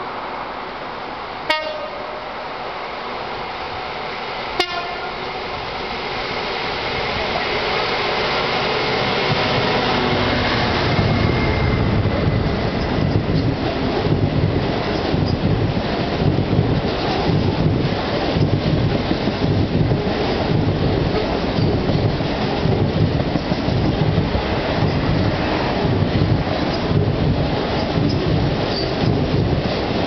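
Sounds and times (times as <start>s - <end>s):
diesel locomotive engine: 0.0s - 30.0s
wagons rumbling over rails: 0.0s - 30.0s.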